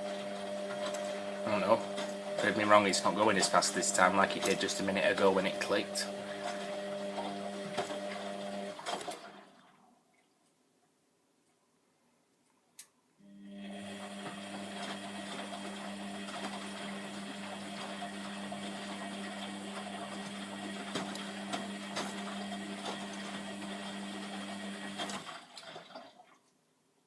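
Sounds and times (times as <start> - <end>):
washing machine humming: 0.0 - 9.9, 13.2 - 26.3.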